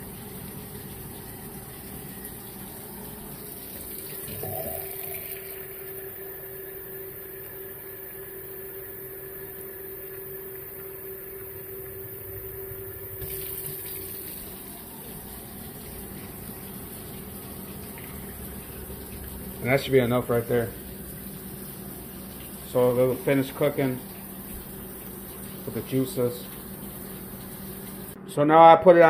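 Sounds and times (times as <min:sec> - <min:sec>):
water running into container: 0:00.0 - 0:28.2.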